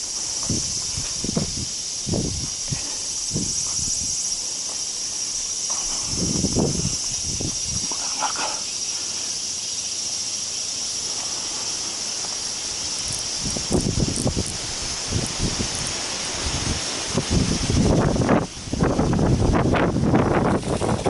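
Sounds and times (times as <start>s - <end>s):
insect chorus drone: 0.0s - 21.0s.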